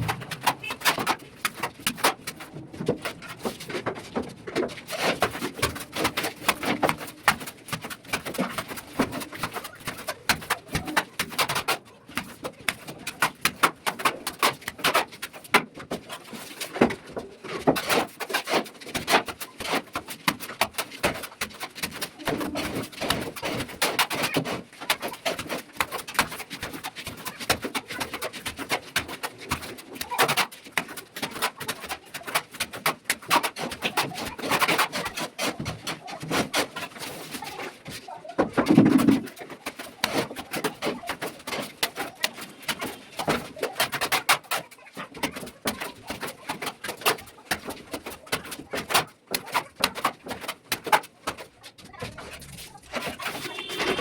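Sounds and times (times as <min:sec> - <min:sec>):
trowel scraping plaster: 0:00.0 - 0:54.0.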